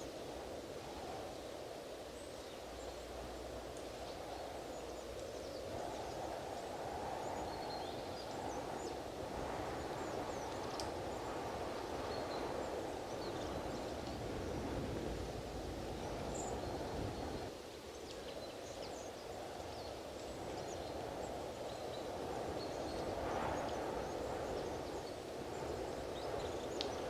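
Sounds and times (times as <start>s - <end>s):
strong wind blowing: 0.0s - 17.5s, 19.3s - 27.0s.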